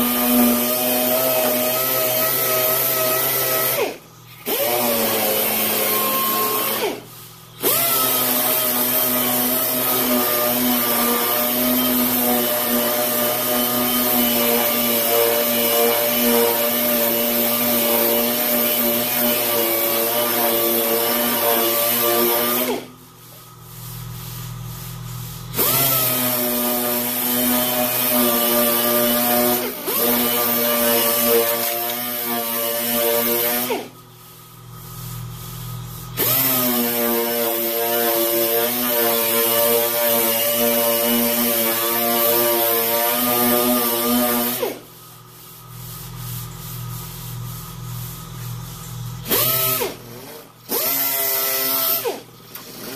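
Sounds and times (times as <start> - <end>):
air sander whining: 0.0 - 44.9.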